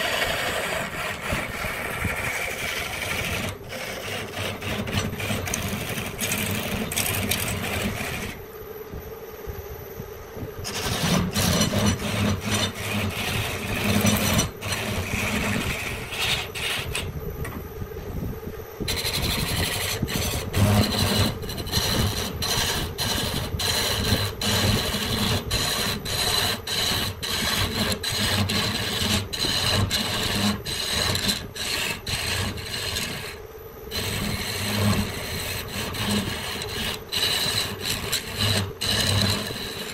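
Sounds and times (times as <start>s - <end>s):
abrasive scraping on wood: 0.0s - 8.4s, 10.7s - 17.1s, 18.9s - 39.9s.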